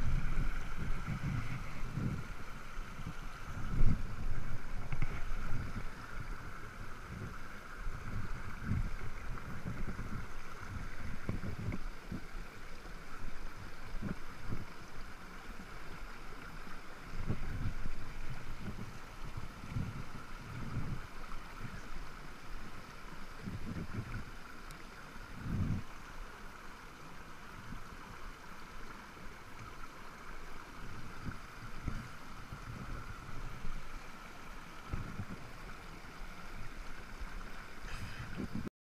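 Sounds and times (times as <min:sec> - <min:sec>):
stream rushing over rocks: 0:00.0 - 0:38.7.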